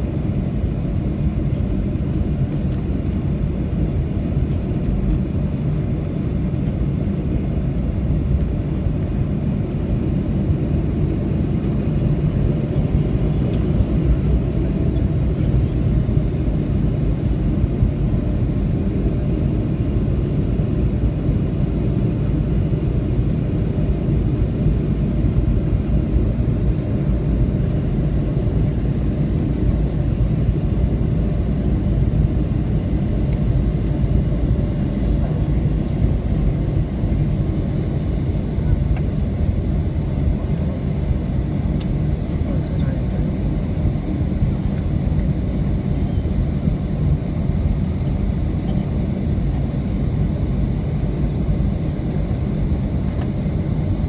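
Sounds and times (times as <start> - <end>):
aircraft engines idling: 0.0 - 54.0.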